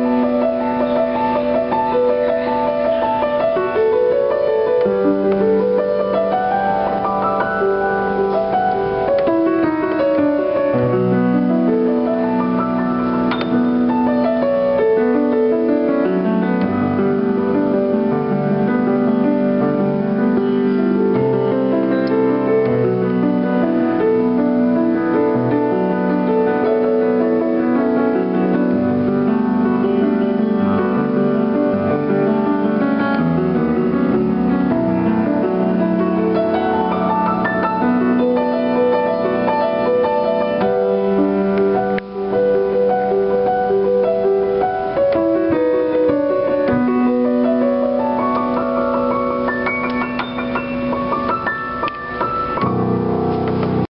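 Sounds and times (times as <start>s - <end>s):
piano chords: 0.0s - 53.9s.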